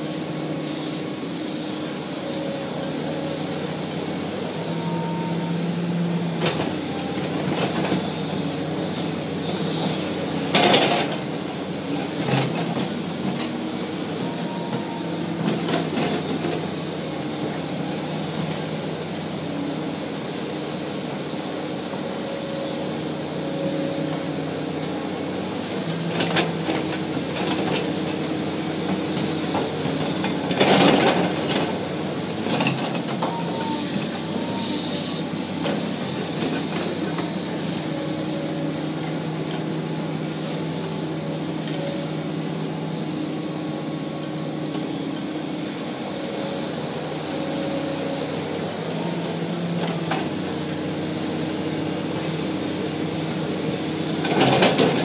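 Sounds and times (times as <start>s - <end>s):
excavator engine humming: 0.0s - 55.0s.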